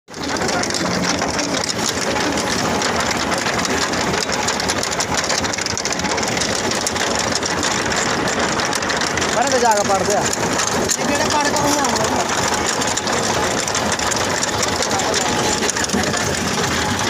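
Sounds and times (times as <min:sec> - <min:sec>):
tractor engine running: 0:00.1 - 0:17.0.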